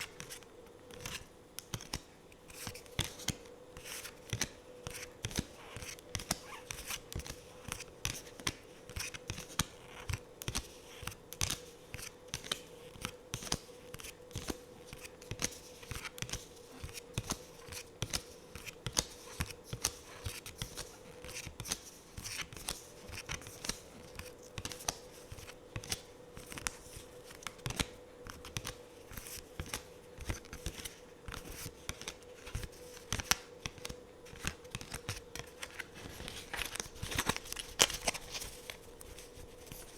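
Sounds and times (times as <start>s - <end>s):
cards clicking and flicking: 0.0s - 39.9s
faint steady hum: 0.0s - 39.9s.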